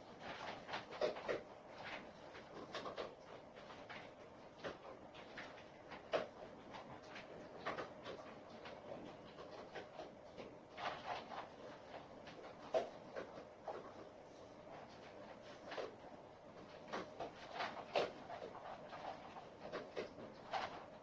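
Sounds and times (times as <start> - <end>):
dog chewing: 0.1 - 21.0.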